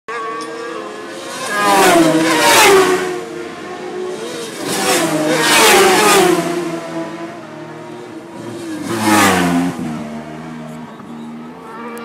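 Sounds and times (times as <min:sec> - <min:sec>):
racing motorcycles passing: 0:00.1 - 0:12.0.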